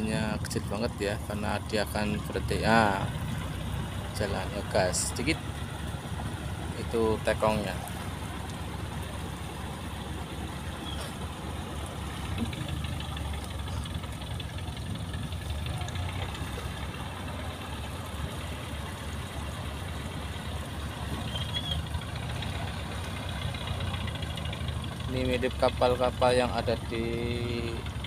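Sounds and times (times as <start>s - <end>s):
boat diesel engine running: 0.0s - 28.0s.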